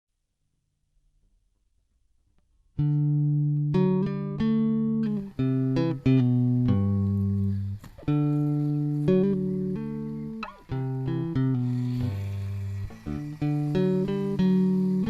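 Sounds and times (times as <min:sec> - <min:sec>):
plucked guitar melody: 0:02.8 - 0:15.0.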